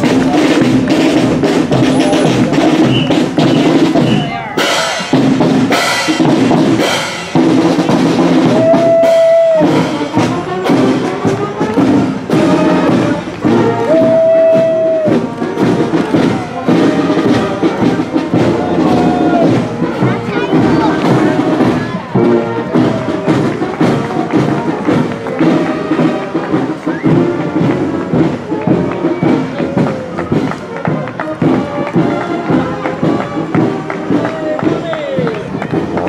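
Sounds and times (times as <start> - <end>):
heavy drumming: 0.0 - 36.0
marching band playing: 0.0 - 36.0.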